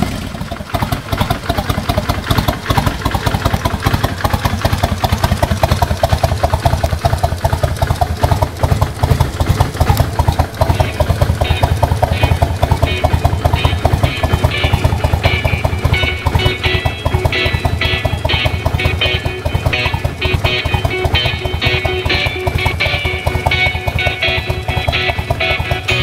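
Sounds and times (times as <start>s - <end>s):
higher tones: 0.0s - 26.0s
motorcycle engine idling: 0.0s - 26.0s.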